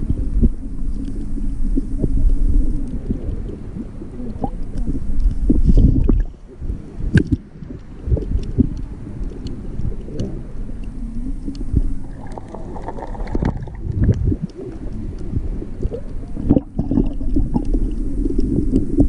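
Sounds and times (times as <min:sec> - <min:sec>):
muffled underwater water rumbling: 0:00.0 - 0:19.0.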